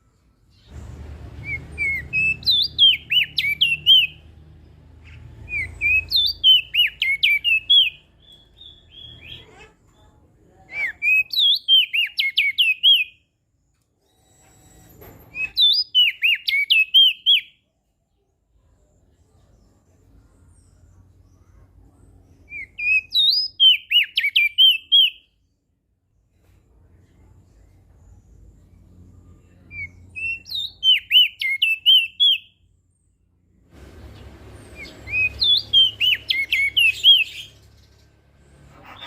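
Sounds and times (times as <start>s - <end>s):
bird singing chirping phrases: 0.1s - 13.3s, 15.4s - 17.6s, 18.2s - 25.7s, 27.3s - 33.2s, 33.9s - 39.0s.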